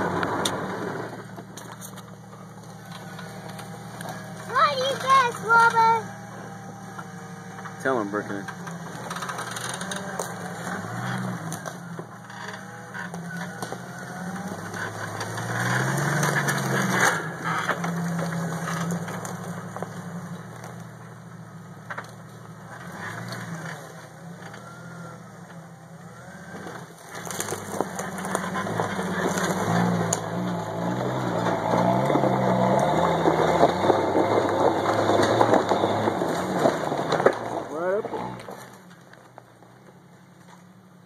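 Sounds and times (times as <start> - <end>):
tyres crunching over rocks: 0.0 - 40.8
vehicle engine revving: 0.0 - 41.0.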